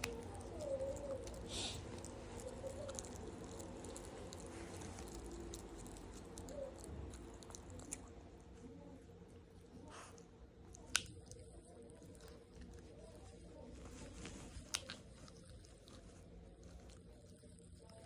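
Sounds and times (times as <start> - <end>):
low background hum: 0.0 - 18.0
pet chewing a treat: 0.0 - 18.0.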